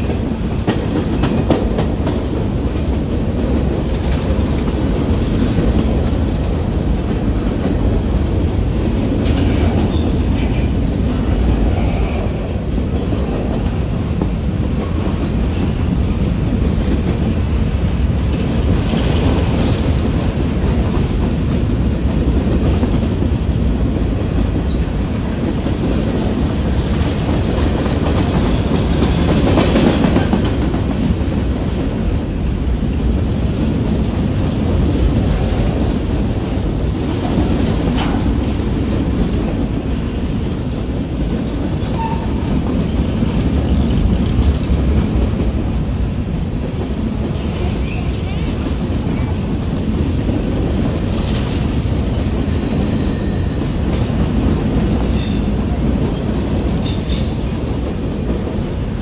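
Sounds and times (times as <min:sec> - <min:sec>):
freight train wheels clickety-clack: 0:00.0 - 0:59.0.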